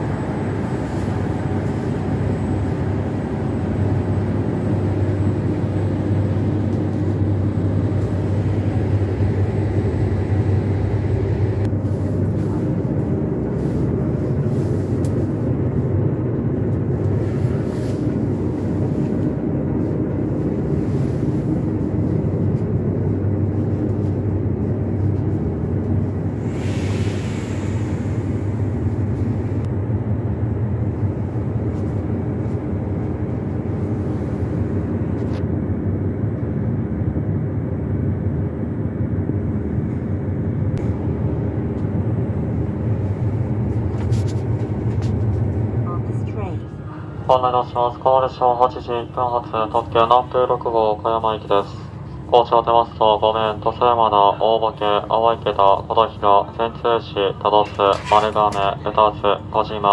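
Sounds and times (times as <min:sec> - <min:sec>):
diesel railcar engines idling: 0:00.0 - 0:19.2, 0:23.2 - 0:35.1, 0:39.4 - 0:59.9.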